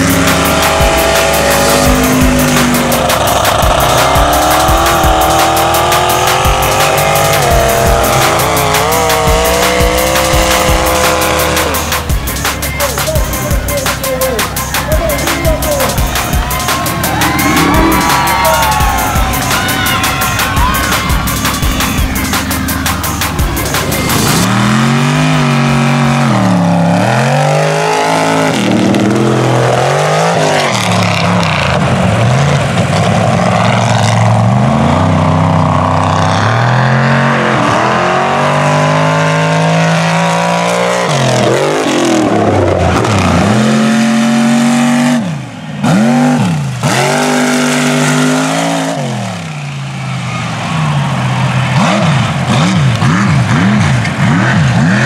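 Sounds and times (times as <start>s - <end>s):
truck engines revving hard: 0.0s - 55.0s.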